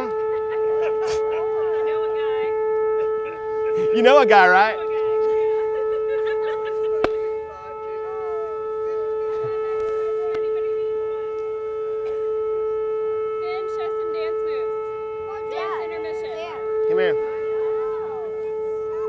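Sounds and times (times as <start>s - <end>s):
air raid siren steady tone: 0.0s - 19.0s.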